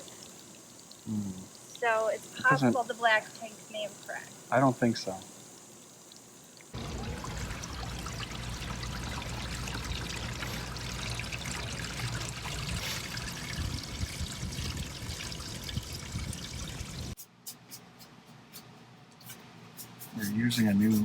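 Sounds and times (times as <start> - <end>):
water pouring and trickling: 0.0 - 17.2.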